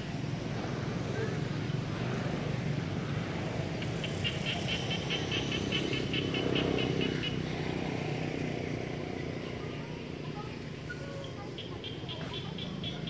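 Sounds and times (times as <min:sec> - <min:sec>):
motorbike and traffic rumble: 0:00.0 - 0:13.0.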